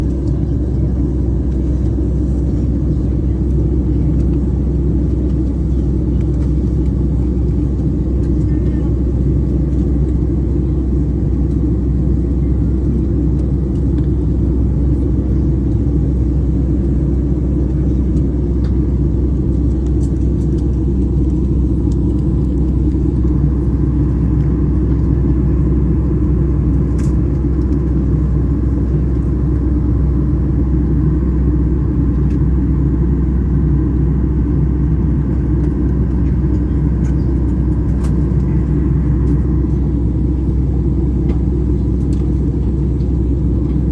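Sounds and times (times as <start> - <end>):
airplane engines droning: 0.0 - 43.9.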